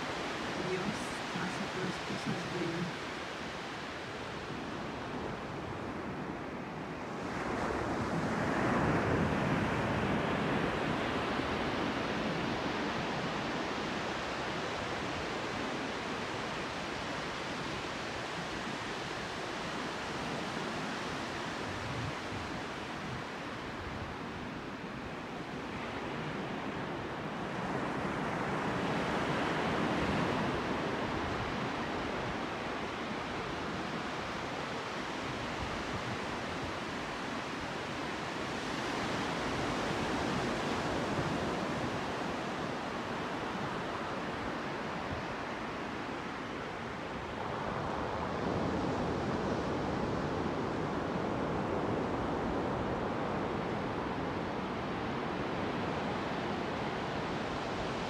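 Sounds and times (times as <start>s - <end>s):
surf washing up a beach: 0.0s - 58.0s.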